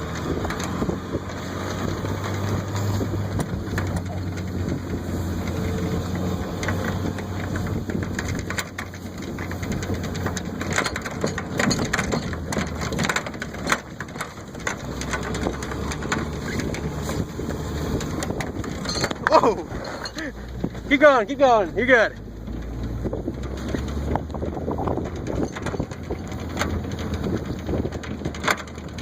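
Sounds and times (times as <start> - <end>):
plastic sled scraping over snow: 0.0 - 29.0
truck engine hum: 0.0 - 29.0.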